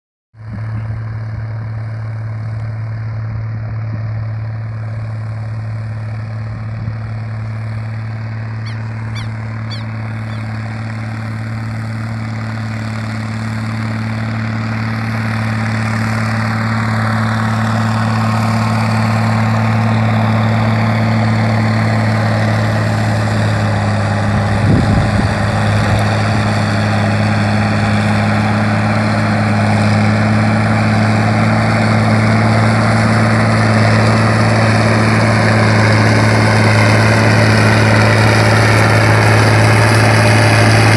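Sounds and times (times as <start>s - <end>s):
heavy vehicle engine rumbling: 0.4s - 40.9s.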